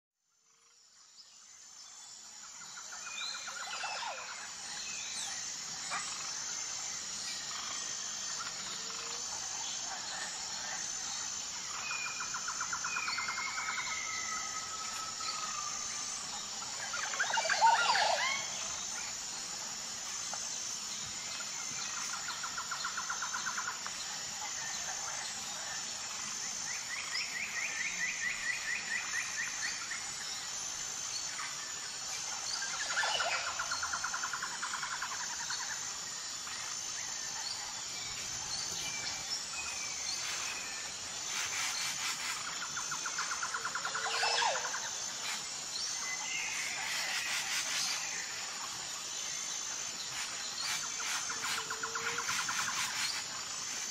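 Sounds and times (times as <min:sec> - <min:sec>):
high insect drone: 0:00.2 - 0:53.9.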